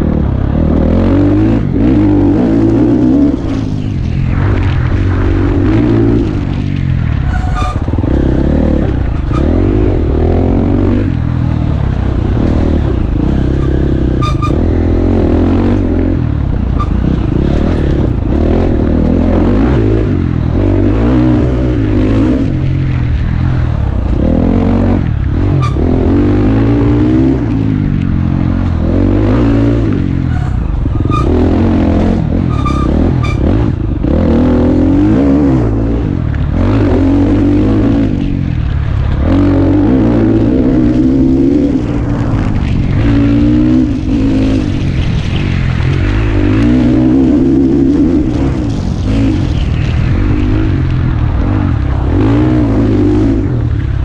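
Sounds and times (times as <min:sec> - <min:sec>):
dirt bike engine revving: 0:00.0 - 0:38.3, 0:39.1 - 0:53.7.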